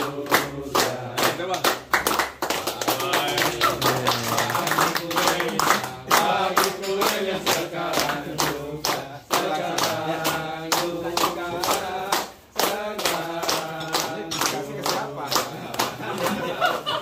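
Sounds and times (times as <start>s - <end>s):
men singing together: 0.0s - 1.9s, 2.5s - 17.0s
hands clapping in rhythm: 0.0s - 17.0s.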